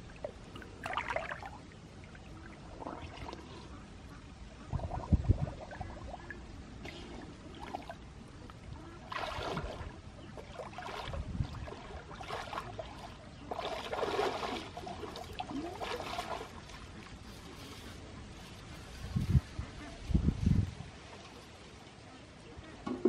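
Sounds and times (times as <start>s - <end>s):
water sloshing as person wades: 0.0s - 19.3s.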